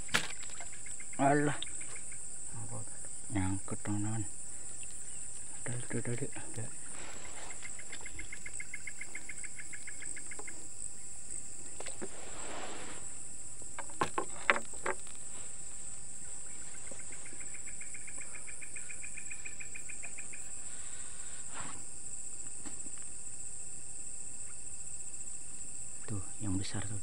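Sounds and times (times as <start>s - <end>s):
cricket chorus: 0.0s - 27.0s
low pulsed insect trill: 0.0s - 27.0s.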